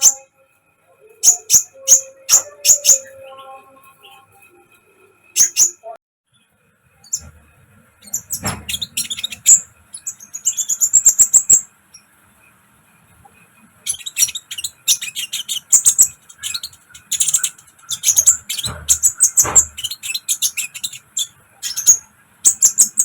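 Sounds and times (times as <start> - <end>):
bird chirping: 0.0 - 12.5, 13.1 - 23.0.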